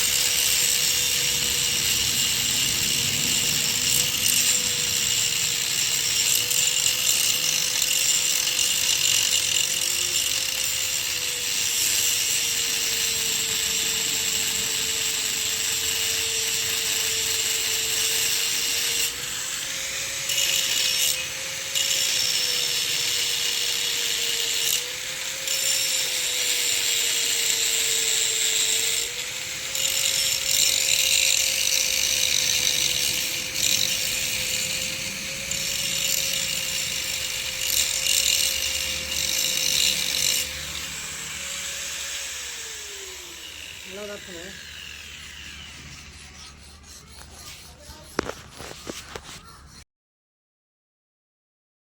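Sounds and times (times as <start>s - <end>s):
angle grinder motor hum: 0.0s - 49.8s
high grinding hiss: 0.0s - 49.8s.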